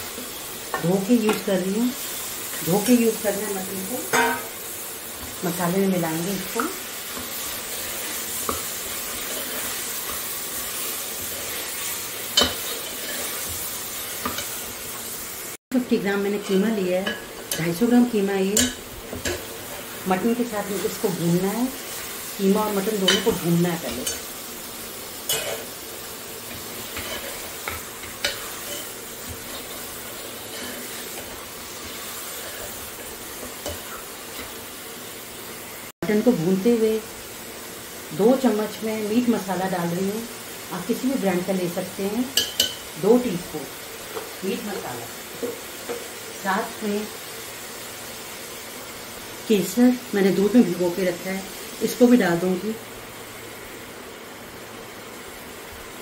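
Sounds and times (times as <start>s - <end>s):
meat sizzling in a pot: 0.0s - 56.0s.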